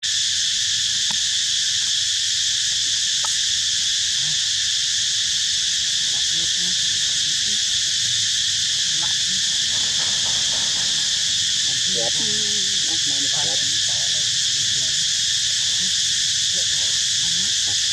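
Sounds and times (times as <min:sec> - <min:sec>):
insects droning: 0:00.0 - 0:17.9.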